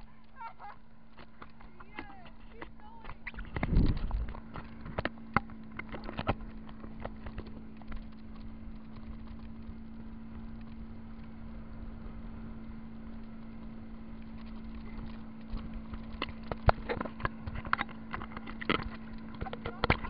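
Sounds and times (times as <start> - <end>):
tube knocking and slapping water: 0.0 - 11.4, 13.0 - 20.0
steady low hum: 0.0 - 20.0.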